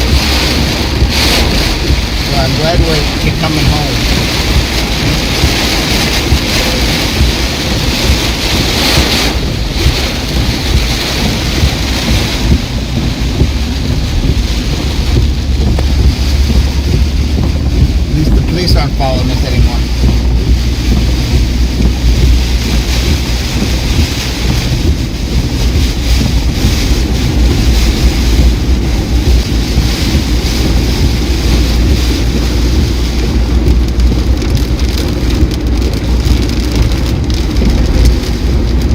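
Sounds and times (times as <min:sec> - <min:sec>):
heavy rain pelting a car: 0:00.0 - 0:38.9
low rumble of moving car: 0:00.0 - 0:38.9.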